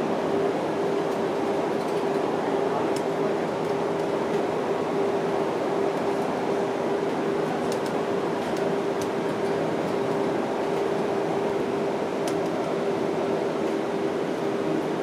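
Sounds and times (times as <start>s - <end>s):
bus engine and road rumble: 0.0s - 15.0s
ventilation hum: 0.0s - 15.0s.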